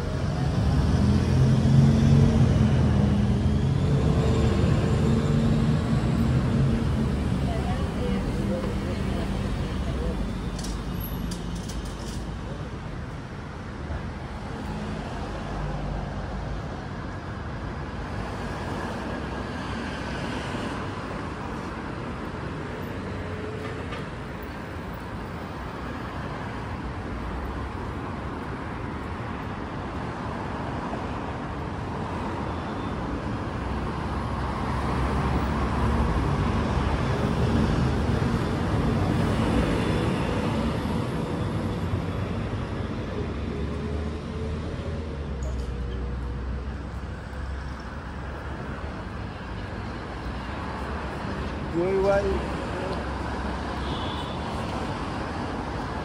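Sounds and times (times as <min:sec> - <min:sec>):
passing cars rumble and hiss: 0:00.0 - 0:56.0.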